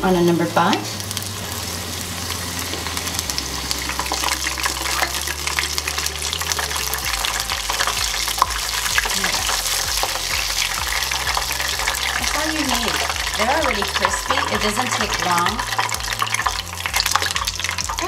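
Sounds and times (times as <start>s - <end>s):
oil sizzling and crackling: 0.0s - 18.0s
strainer stirring in oil: 1.0s - 18.0s.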